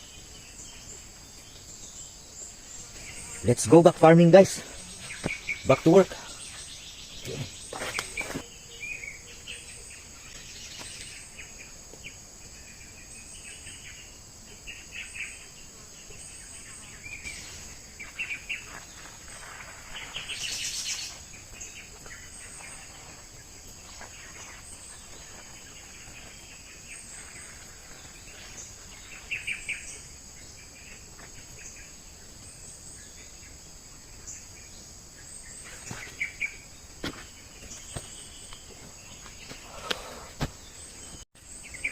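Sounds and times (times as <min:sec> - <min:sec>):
birds chirping: 0:00.0 - 0:41.9
insects droning: 0:00.0 - 0:41.9.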